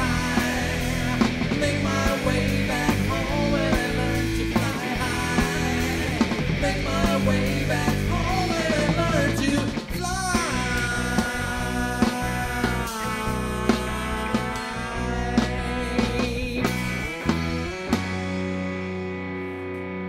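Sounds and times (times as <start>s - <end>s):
drums steady beat: 0.0s - 18.5s
rock band playing: 0.0s - 20.0s.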